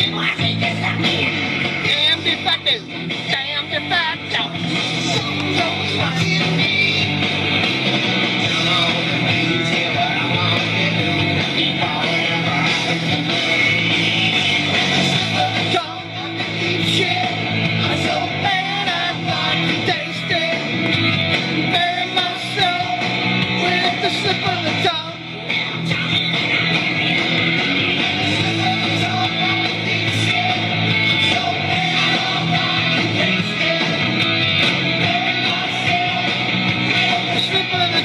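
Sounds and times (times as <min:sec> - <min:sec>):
person singing: 0:00.0 - 0:07.4, 0:08.3 - 0:20.8, 0:21.6 - 0:38.0
rock song with electric guitar: 0:00.0 - 0:38.0.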